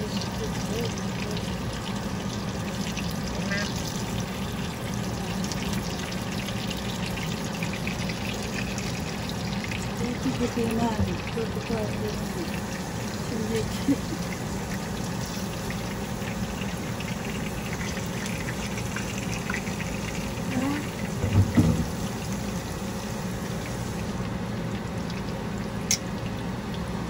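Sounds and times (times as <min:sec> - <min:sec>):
chicken frying in hot oil: 0:00.0 - 0:27.0.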